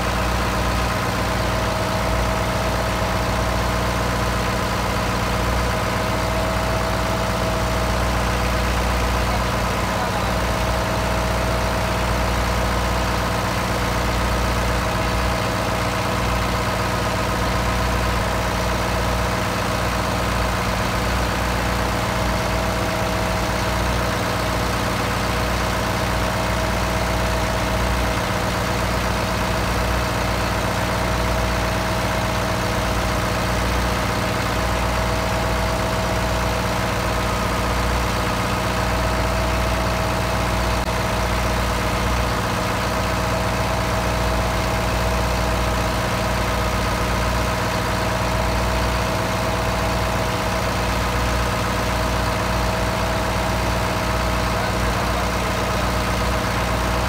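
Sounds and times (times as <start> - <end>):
diesel engine droning: 0.0 - 57.0
steady engine whine: 0.0 - 57.0.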